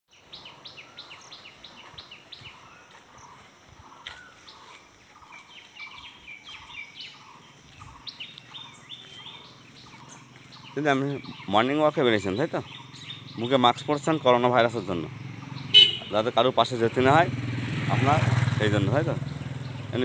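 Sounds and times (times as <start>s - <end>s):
faint outdoor background noise: 0.1s - 20.0s
small birds chirping: 0.1s - 20.0s.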